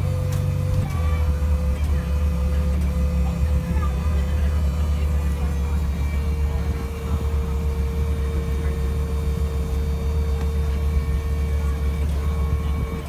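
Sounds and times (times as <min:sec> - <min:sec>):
thin steady whine: 0:00.0 - 0:13.0
vehicle engine idling: 0:00.0 - 0:13.0.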